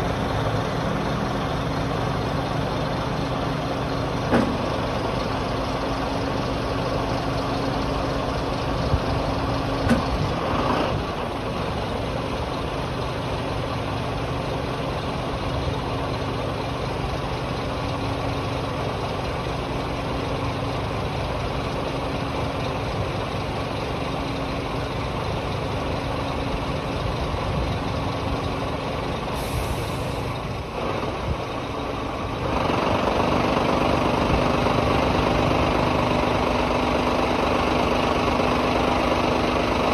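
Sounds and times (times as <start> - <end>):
diesel truck idling: 0.0 - 39.9.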